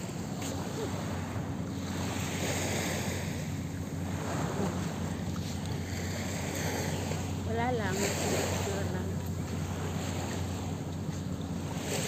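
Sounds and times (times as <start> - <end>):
small waves washing on shore: 0.0 - 12.0.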